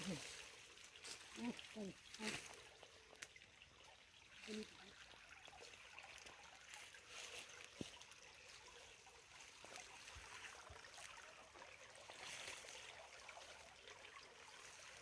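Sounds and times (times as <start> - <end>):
stream of water trickling: 0.0 - 15.0.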